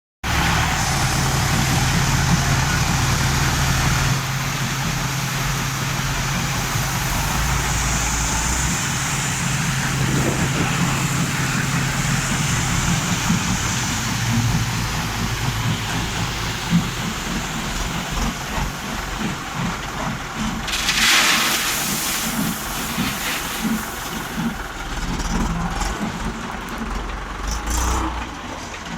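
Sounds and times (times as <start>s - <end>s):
tractor diesel engine running: 0.2s - 28.9s.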